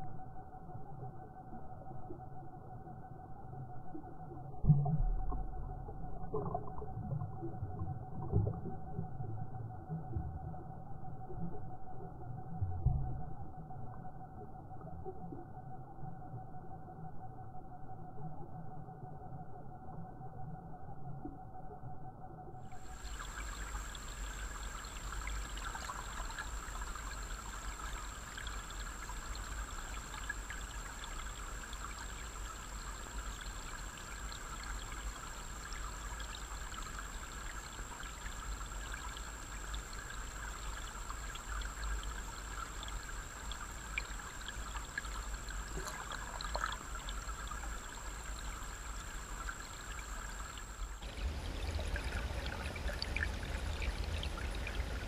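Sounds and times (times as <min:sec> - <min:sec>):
stream water rushing underwater: 0:00.0 - 0:17.0, 0:19.5 - 0:55.0.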